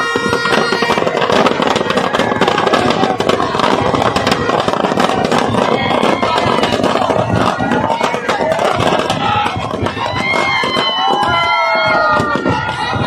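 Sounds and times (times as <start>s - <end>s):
firecrackers banging and crackling: 0.0s - 13.0s.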